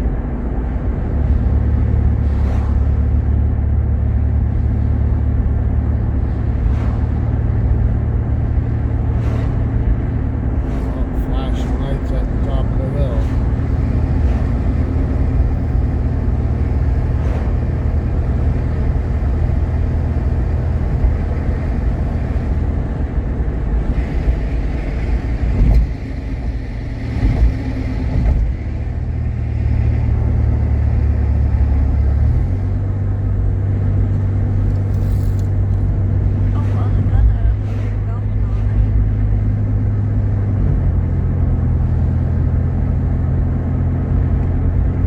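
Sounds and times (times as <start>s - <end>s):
car engine droning inside cabin: 0.0s - 45.0s
road noise: 0.0s - 45.0s.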